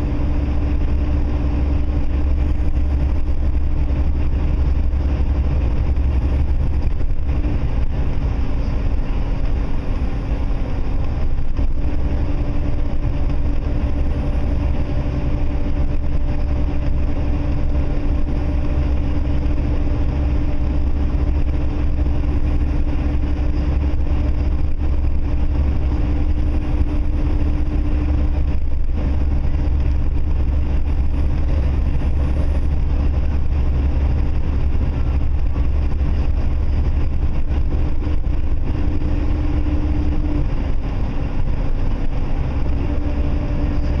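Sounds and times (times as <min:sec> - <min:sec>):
road and engine rumble: 0:00.0 - 0:44.0.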